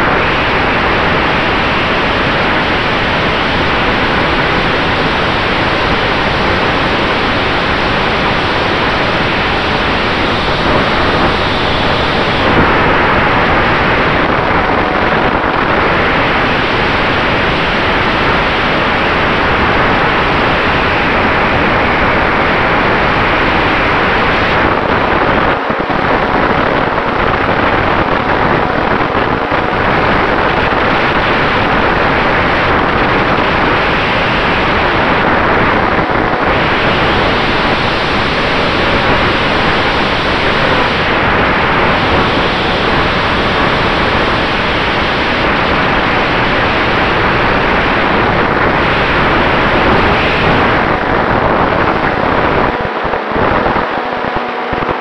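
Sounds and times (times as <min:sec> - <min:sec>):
loud wind rush: 0:00.0 - 0:55.0.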